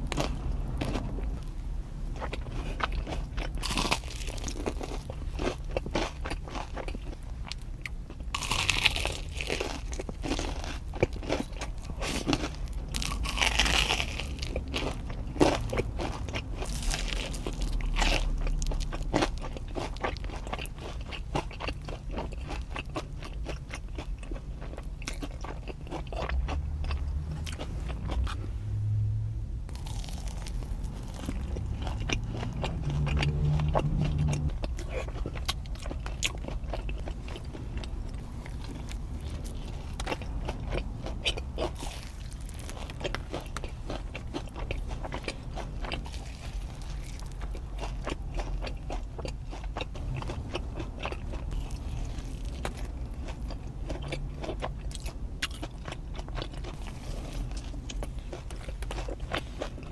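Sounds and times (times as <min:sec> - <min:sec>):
crunchy fried batter chewing: 0:00.0 - 0:28.5, 0:29.7 - 0:59.9.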